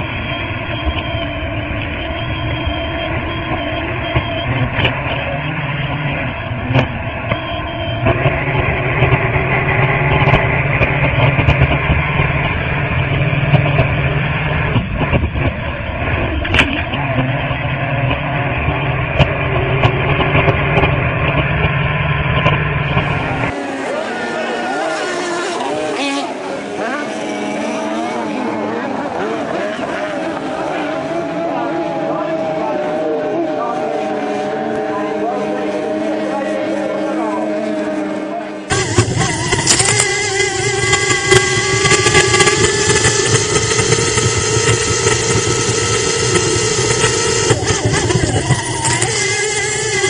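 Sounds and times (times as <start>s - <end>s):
racing boat engines running: 0.0s - 50.0s.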